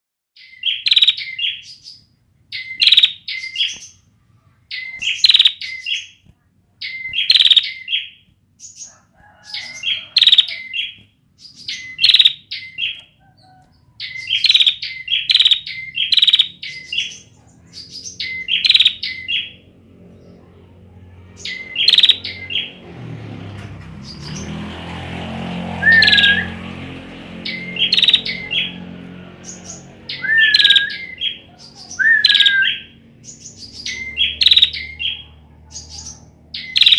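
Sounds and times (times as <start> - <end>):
bird chirping: 0.4 - 4.1, 4.7 - 24.8, 25.7 - 36.9.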